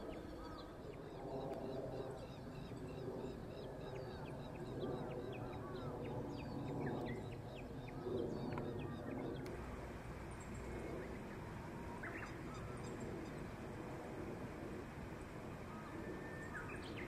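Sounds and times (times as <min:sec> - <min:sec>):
birds chirping: 0:00.0 - 0:13.9, 0:15.1 - 0:17.0.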